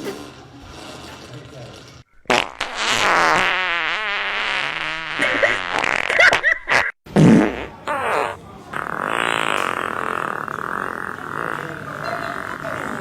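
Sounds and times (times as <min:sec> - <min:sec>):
farting: 0:02.2 - 0:13.0.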